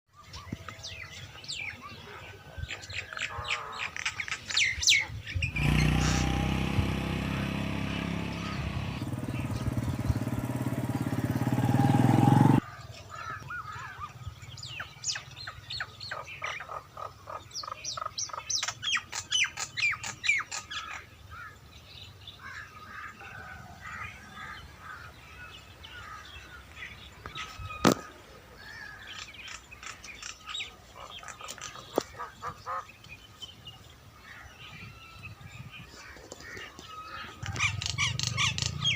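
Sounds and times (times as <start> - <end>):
birds chirping: 0.1 - 38.9.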